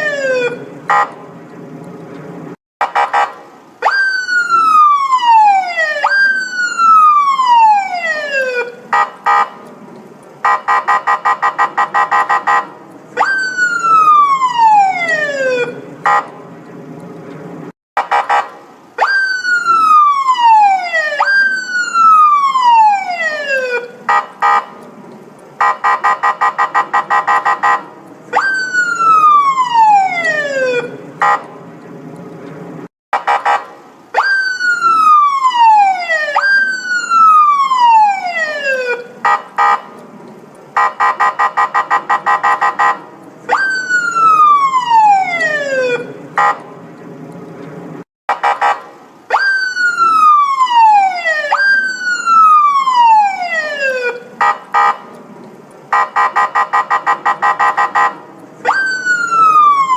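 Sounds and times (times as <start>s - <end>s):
police siren wailing: 0.0s - 1.2s, 2.8s - 9.7s, 10.4s - 16.4s, 18.0s - 24.8s, 25.5s - 31.6s, 33.2s - 40.0s, 40.7s - 46.7s, 48.3s - 55.2s, 55.9s - 59.9s.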